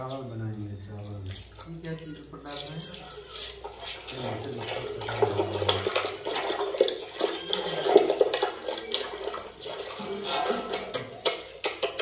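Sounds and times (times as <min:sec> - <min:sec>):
wet squelching of meat: 0:00.8 - 0:12.0.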